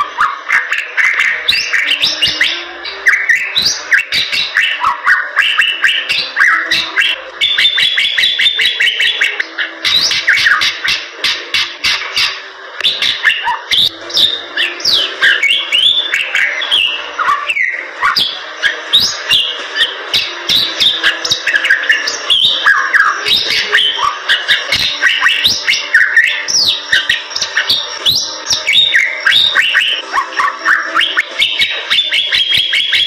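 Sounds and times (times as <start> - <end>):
bird singing chattering whistles: 0.2 - 33.0.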